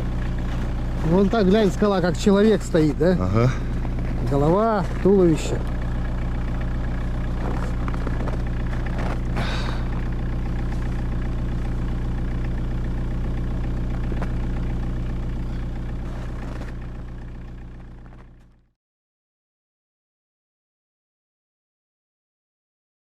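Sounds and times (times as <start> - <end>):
vehicle engine droning: 0.0 - 18.7.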